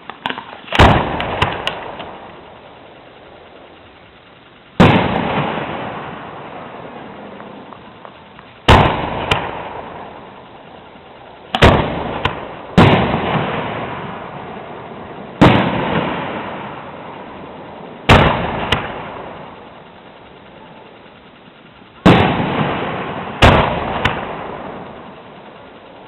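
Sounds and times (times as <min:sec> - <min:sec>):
small firework cracks: 0:00.0 - 0:17.4, 0:18.0 - 0:26.0
firework bangs with rolling echo: 0:00.0 - 0:21.1, 0:22.0 - 0:26.0.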